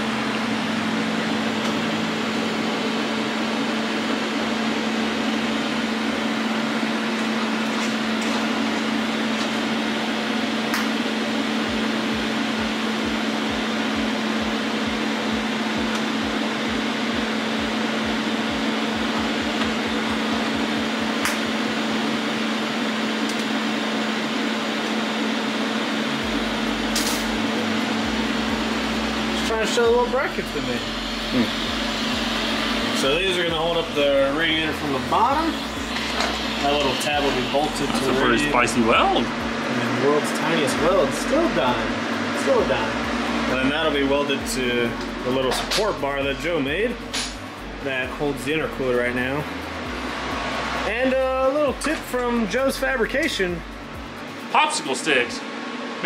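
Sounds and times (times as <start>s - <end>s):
welding arc buzzing: 0.0s - 55.3s
constant hum: 0.0s - 56.0s.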